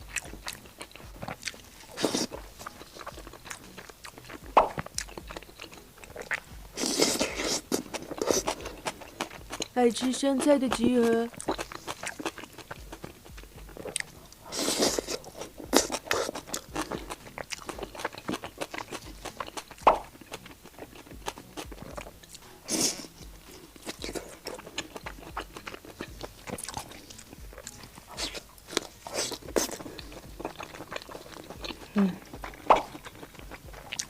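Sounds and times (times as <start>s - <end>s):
crunching and chewing fried food: 0.0s - 34.0s.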